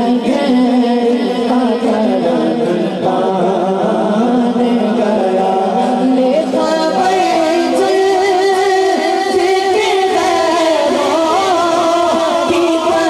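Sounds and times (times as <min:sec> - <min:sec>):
boy singing into microphone: 0:00.0 - 0:13.0.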